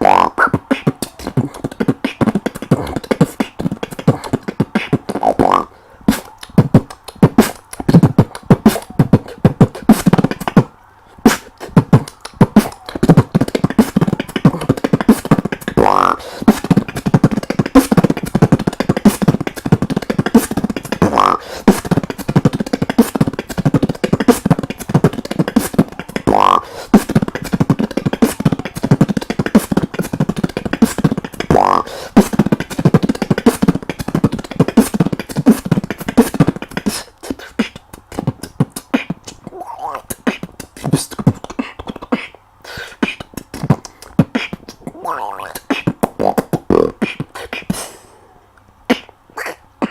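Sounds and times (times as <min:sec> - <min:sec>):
beatboxing beat: 0:00.0 - 0:49.9.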